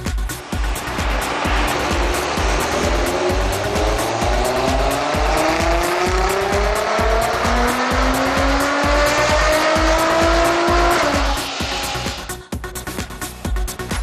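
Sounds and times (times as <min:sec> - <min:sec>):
car engine revving on a dyno: 0:00.0 - 0:12.4
backing music with steady beat: 0:00.0 - 0:14.0.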